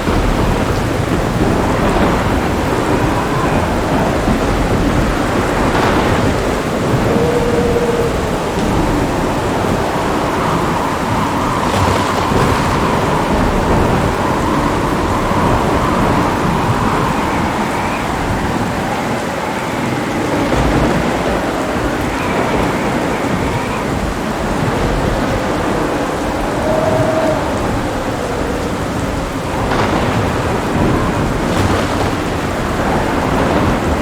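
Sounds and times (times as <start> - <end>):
steady rain: 0.0 - 34.0
thunder rumbling: 0.0 - 34.0.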